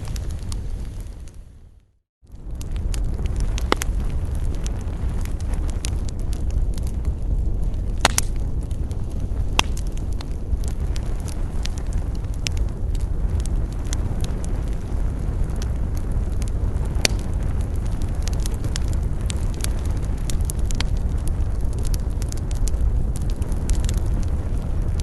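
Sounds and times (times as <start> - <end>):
burning wood crackling and popping: 0.0 - 25.0
campfire flames rumbling: 0.0 - 25.0.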